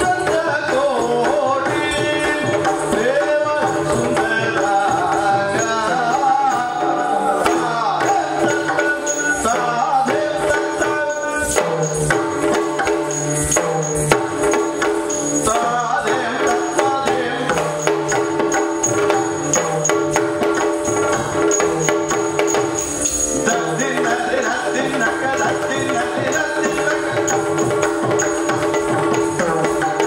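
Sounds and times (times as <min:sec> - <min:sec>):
ankle bells jingling: 0:00.0 - 0:30.0.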